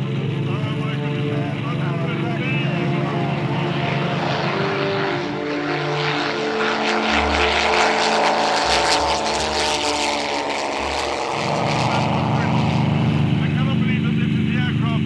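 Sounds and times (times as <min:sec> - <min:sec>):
aircraft engine at full power: 0:00.0 - 0:15.0.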